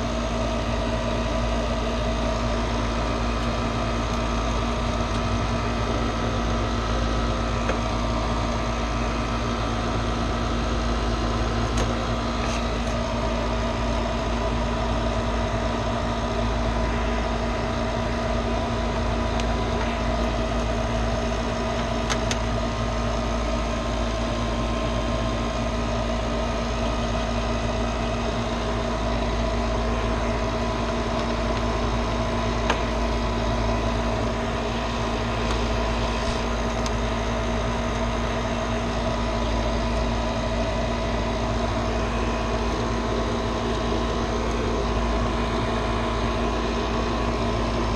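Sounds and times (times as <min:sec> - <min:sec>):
mechanical hum of equipment: 0:00.0 - 0:47.9.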